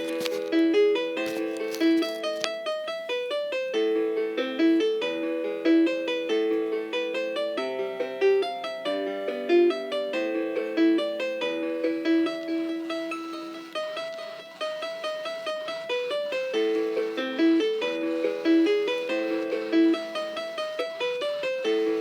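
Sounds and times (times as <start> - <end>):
keyboard music: 0.0 - 22.0.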